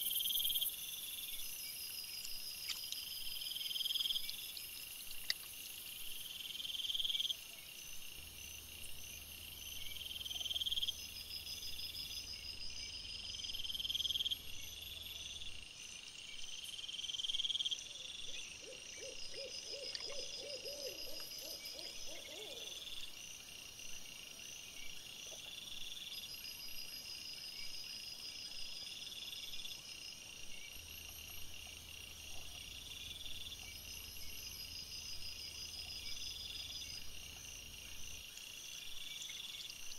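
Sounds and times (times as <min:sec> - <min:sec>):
high pulsing insect trill: 0:00.0 - 0:39.9
night insects chirping: 0:00.0 - 0:39.9.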